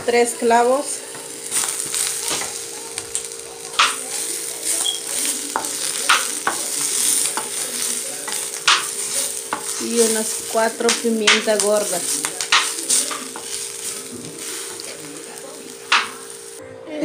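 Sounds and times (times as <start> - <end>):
chiles sizzling in a frying pan: 0.0 - 16.6
wooden spoon scraping a pan: 0.9 - 16.6.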